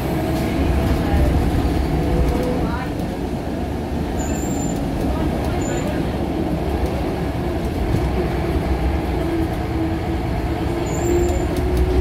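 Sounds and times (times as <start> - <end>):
bus interior rumble: 0.0 - 12.0.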